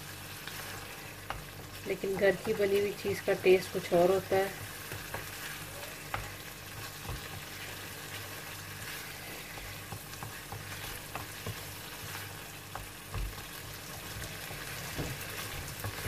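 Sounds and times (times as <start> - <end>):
sauce sizzling in a frying pan: 0.0 - 16.0
spatula scraping and tapping pan: 0.4 - 16.0.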